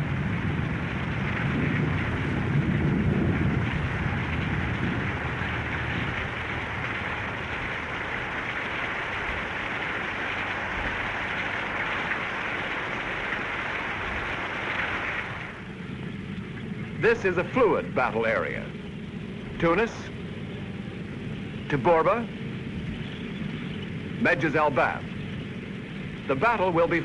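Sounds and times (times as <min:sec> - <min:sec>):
heavy rain hiss: 0:00.0 - 0:27.0
low rumble: 0:00.0 - 0:27.0.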